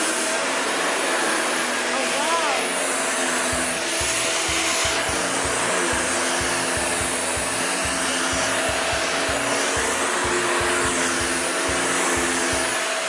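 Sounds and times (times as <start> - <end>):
vacuum cleaner whine: 0.0 - 13.0.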